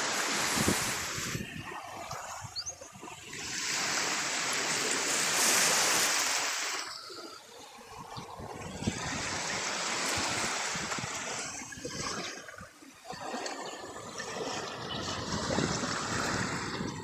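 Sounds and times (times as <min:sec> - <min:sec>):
small waves lapping on sand: 0:00.0 - 0:17.0.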